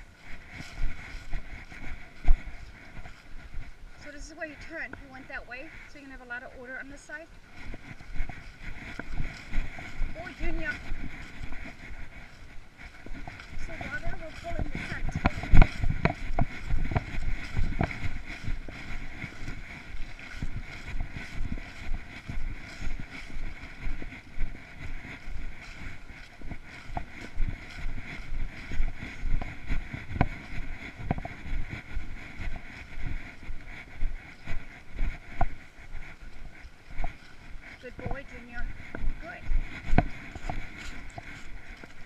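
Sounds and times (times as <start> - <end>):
footsteps on grass and dry leaves: 0.0 - 42.0.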